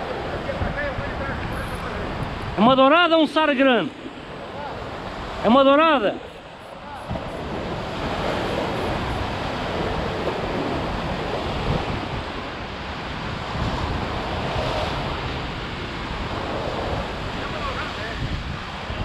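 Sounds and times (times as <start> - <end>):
surf breaking over rocks: 0.0 - 19.0
wind buffeting microphone: 0.0 - 19.0.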